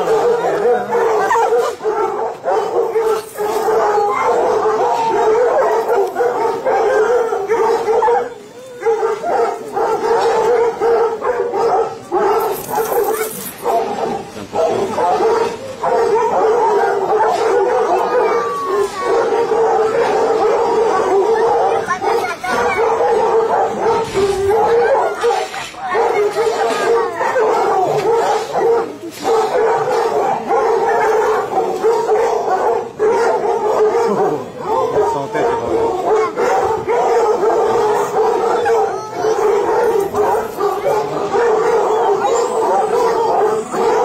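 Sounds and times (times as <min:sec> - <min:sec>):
hounds baying: 0:00.0 - 0:44.0.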